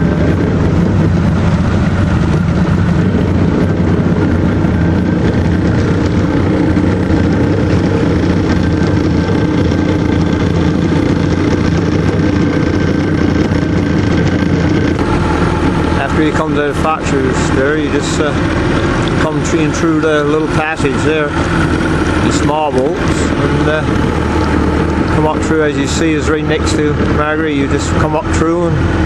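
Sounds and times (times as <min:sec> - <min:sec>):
outboard motor running: 0:00.0 - 0:29.0
water rushing: 0:04.5 - 0:29.0.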